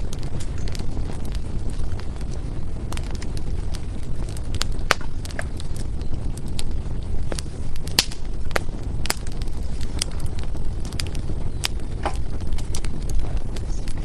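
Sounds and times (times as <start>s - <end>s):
firewood crackling and popping: 0.0s - 14.0s
low rumble of flames: 0.0s - 14.0s.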